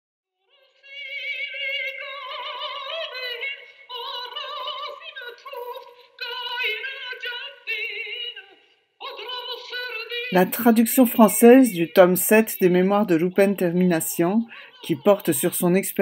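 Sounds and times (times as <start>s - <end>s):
woman singing operatically: 0.4s - 16.0s.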